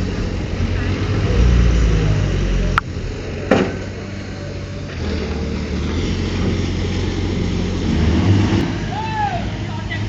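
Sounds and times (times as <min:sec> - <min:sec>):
heavy machine engine rumbling: 0:00.0 - 0:10.0.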